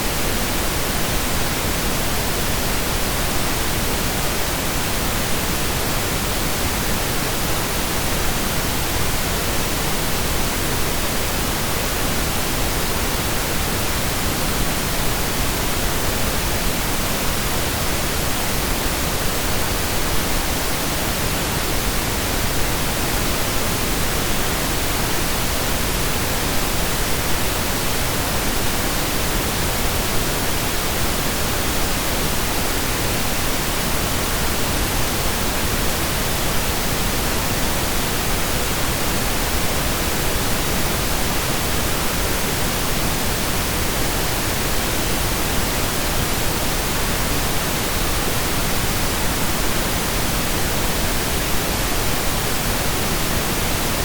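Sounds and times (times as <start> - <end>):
steady pink noise hiss: 0.0 - 54.0.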